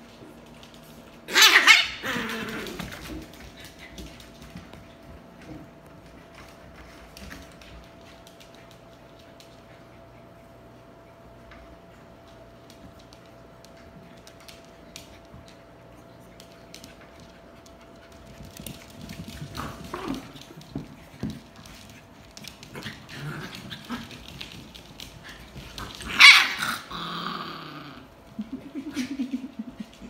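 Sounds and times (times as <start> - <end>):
puppies scuffling on hard floor: 0.0 - 30.0.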